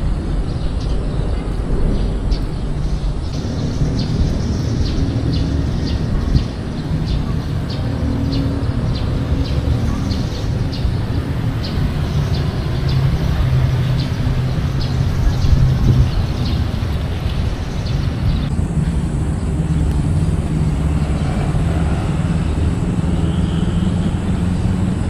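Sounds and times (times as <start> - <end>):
vehicle engines in traffic: 0.0 - 25.0.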